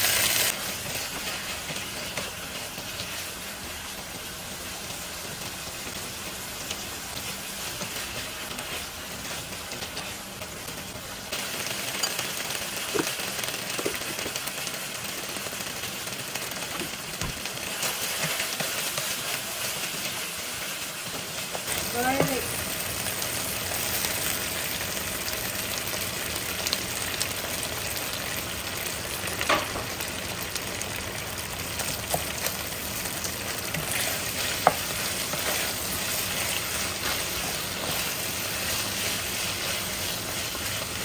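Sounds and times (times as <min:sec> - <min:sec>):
meat sizzling in a frying pan: 0:00.0 - 0:41.0.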